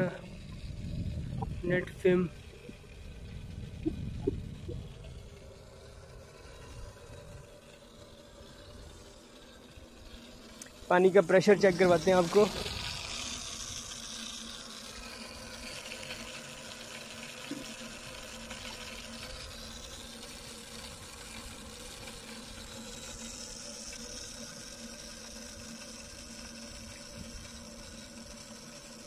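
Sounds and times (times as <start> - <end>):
faint steady hum: 0.0 - 29.0
water rushing through pipes: 0.0 - 29.0.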